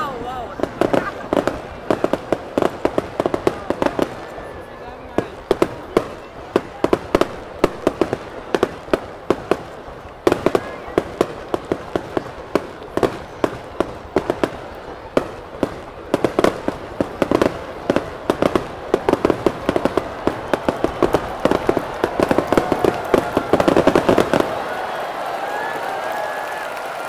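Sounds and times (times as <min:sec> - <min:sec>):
firework bangs and crackles: 0:00.0 - 0:27.0.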